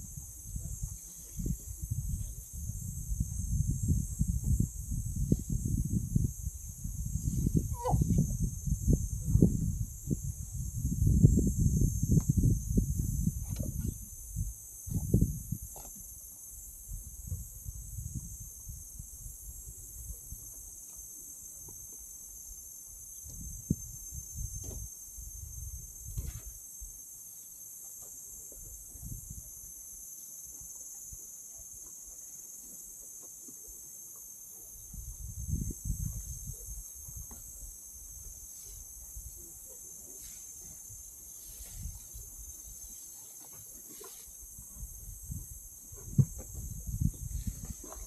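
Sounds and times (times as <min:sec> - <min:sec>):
wind rumble on microphone: 0:00.0 - 0:20.8, 0:21.5 - 0:26.9, 0:28.5 - 0:29.8, 0:34.6 - 0:48.0
high-pitched insect chorus: 0:00.0 - 0:48.0.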